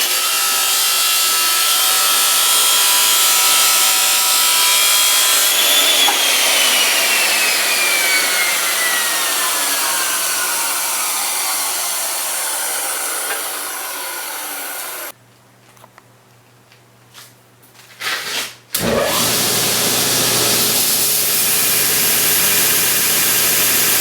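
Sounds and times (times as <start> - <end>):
power saw cutting metal bar: 0.0 - 15.2, 18.8 - 24.0.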